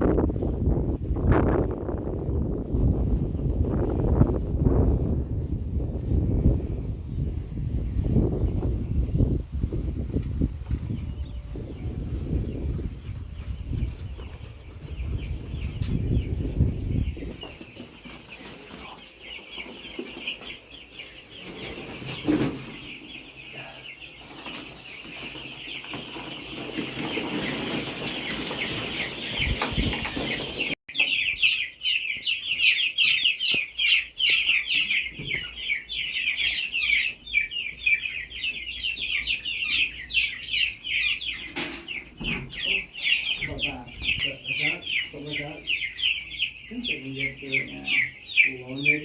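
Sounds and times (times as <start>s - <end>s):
chicks peeping: 0.0s - 49.0s.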